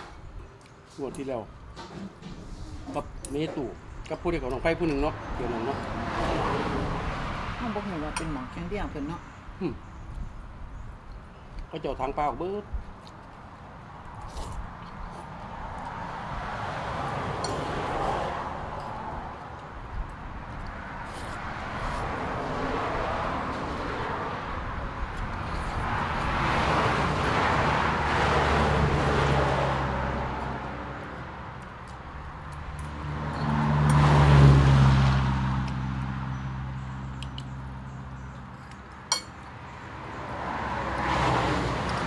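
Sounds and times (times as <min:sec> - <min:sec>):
vehicles driving past: 0:00.0 - 0:42.0.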